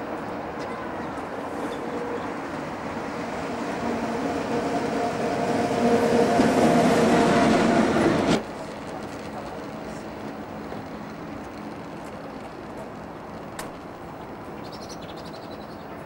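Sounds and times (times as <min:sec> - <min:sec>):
electric locomotive hum: 0:00.0 - 0:16.0
rolling rail noise: 0:00.0 - 0:16.0.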